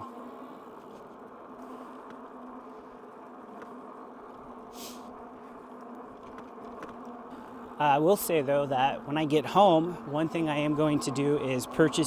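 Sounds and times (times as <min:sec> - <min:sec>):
electric bike motor whining: 0:00.0 - 0:12.0.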